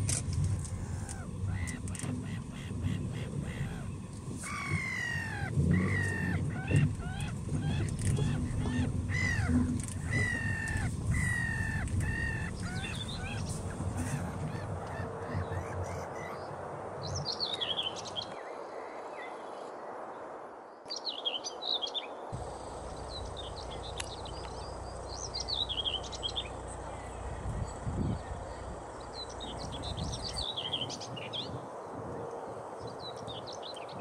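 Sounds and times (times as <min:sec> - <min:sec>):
low background rumble: 0:00.0 - 0:19.0, 0:22.4 - 0:34.0
birds calling: 0:00.0 - 0:20.0, 0:20.9 - 0:34.0
outdoor background hiss: 0:00.0 - 0:34.0.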